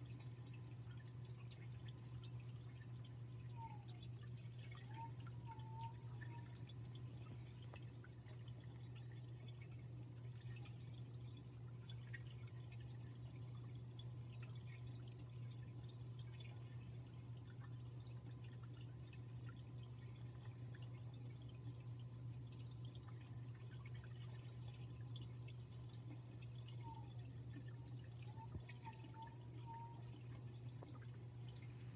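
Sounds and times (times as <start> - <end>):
steady low hum: 0.0 - 31.9
water drips: 0.0 - 31.9
waterfall trickling into pond: 0.0 - 31.9.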